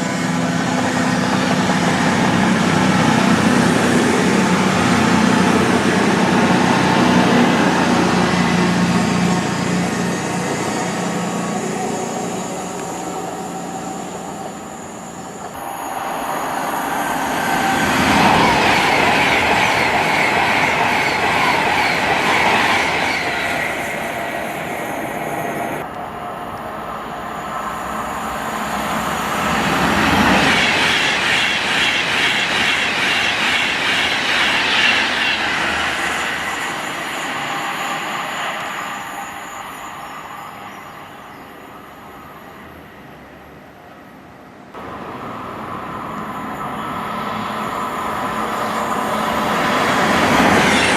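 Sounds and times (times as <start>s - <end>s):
train passing on track: 0.0s - 50.9s.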